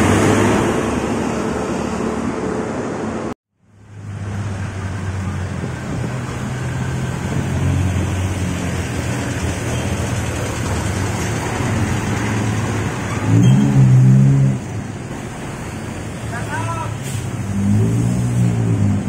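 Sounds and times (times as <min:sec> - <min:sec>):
bus diesel engine droning: 0:00.0 - 0:19.0
street traffic noise: 0:00.0 - 0:19.0.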